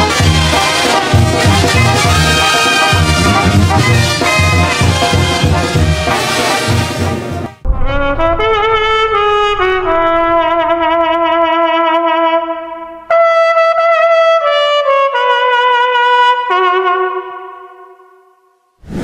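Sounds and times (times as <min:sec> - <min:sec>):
solo trumpet melody: 0:00.0 - 0:18.5.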